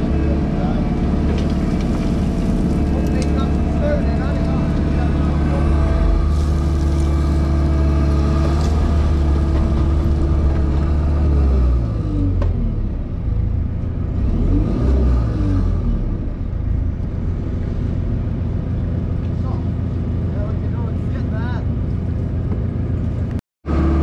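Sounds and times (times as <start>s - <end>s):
diesel engine and hydraulics: 0.0s - 24.0s.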